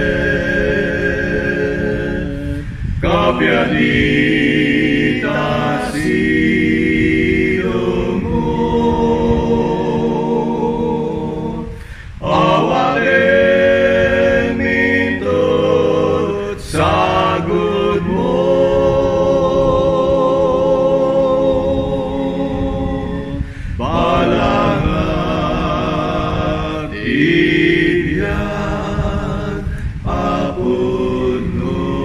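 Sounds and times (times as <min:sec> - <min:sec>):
a cappella hymn singing: 0:00.0 - 0:32.0.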